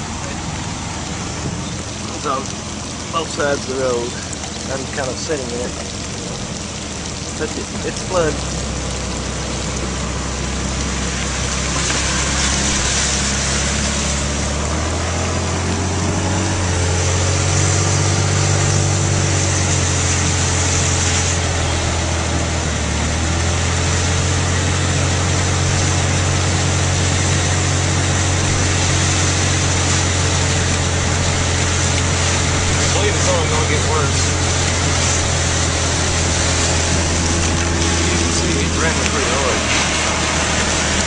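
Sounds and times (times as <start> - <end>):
car engine running slowly: 0.0 - 41.0
heavy rain hissing on car: 0.0 - 41.0.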